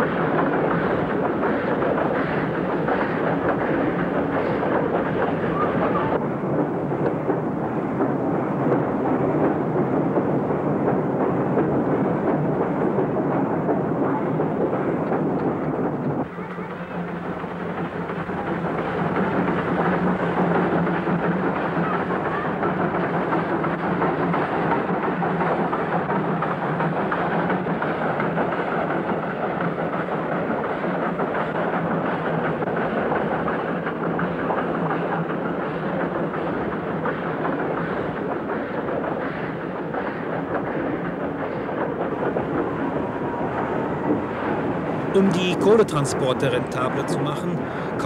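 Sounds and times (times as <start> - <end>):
steam train rumbling: 0.0 - 48.0.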